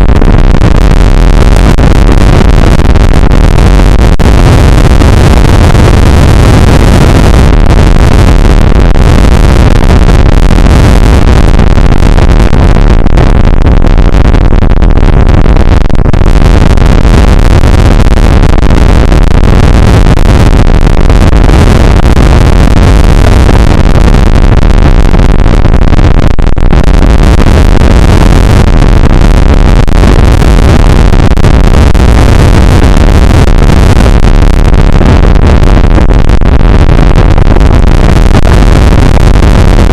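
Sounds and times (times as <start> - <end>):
heavy rain on microphone: 0.0 - 36.8.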